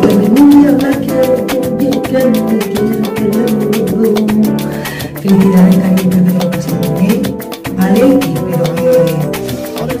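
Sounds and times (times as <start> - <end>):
background music with quick beat: 0.0 - 10.0.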